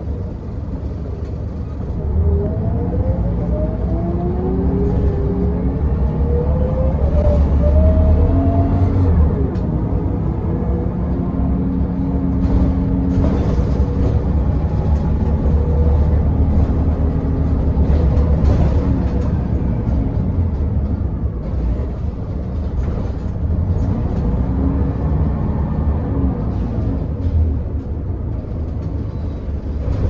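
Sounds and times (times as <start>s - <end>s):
bus engine drone: 0.0s - 30.0s.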